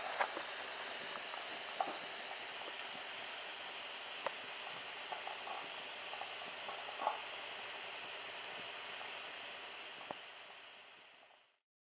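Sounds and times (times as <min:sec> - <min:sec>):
steam hissing: 0:00.0 - 0:11.6.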